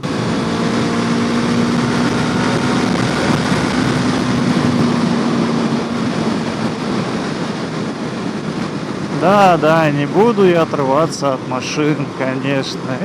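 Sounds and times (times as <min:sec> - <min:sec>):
wind rushing: 0:00.0 - 0:12.9
motorcycle engine drone: 0:00.0 - 0:13.0.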